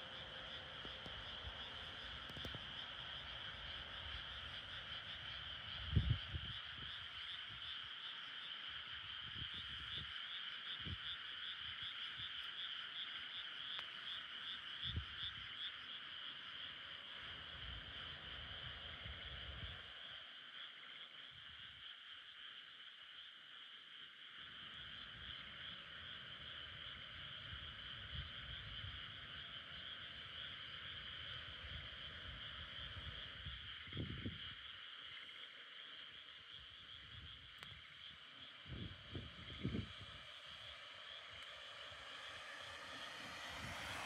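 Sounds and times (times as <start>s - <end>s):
frogs and insects chorus: 0.0s - 44.0s
high pulsing insect trill: 0.0s - 44.0s.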